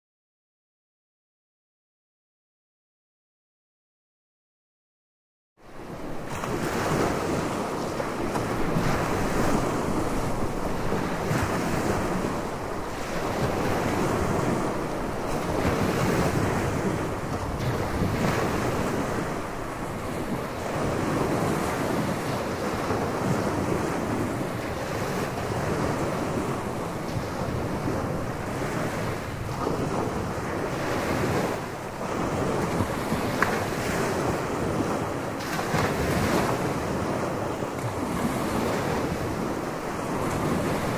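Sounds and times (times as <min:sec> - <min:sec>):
surf washing up a beach: 0:05.6 - 0:40.9
wind buffeting microphone: 0:05.7 - 0:40.9.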